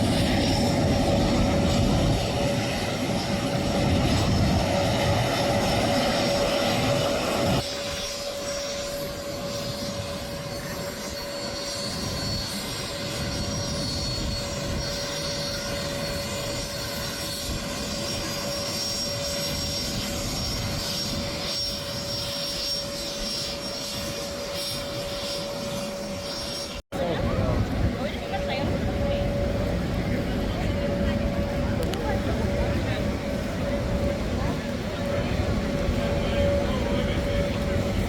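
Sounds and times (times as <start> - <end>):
aircraft engine whine and rumble: 0.0 - 38.0.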